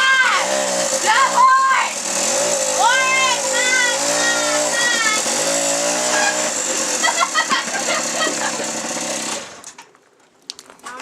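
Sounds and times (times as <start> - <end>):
small engine revving: 0.0 - 9.8.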